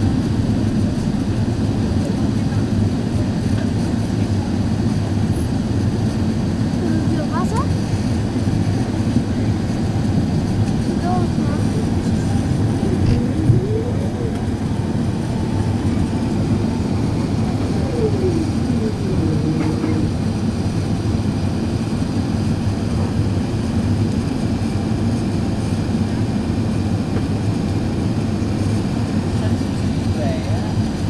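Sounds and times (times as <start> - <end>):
airplane cabin roar: 0.0 - 31.0.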